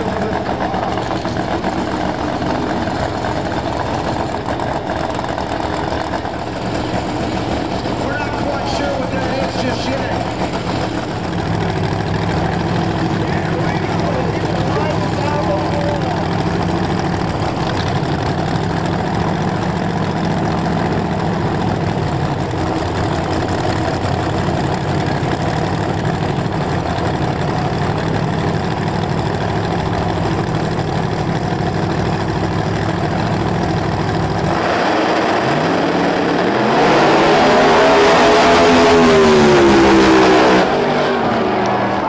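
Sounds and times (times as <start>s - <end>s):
race car engines idling and launching: 0.0s - 42.0s.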